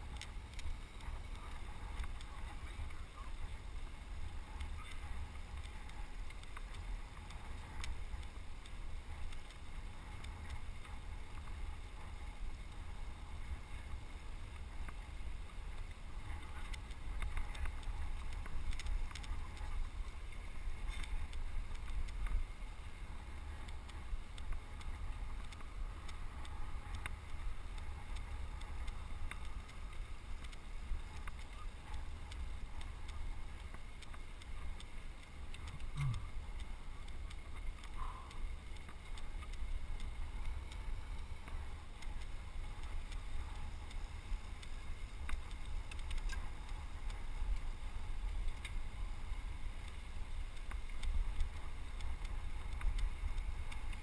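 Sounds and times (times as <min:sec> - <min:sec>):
faint clicks: 0:00.0 - 0:54.0.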